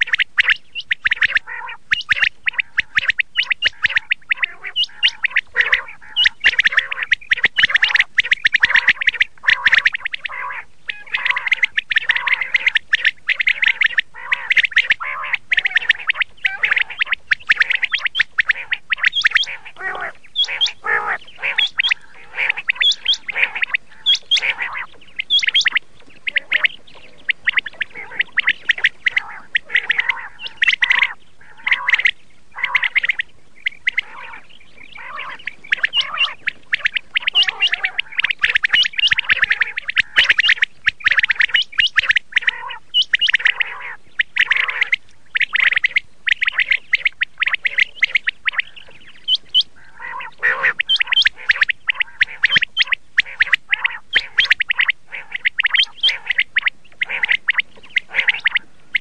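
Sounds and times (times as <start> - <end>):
quail calling: 0.0 - 59.0.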